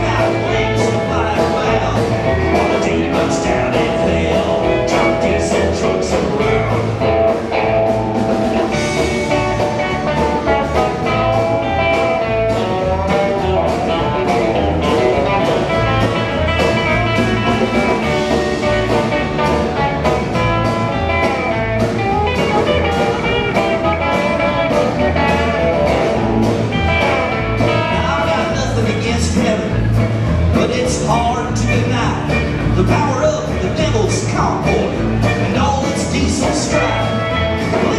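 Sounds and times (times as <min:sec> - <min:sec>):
country band playing instrumental: 0:00.0 - 0:37.9.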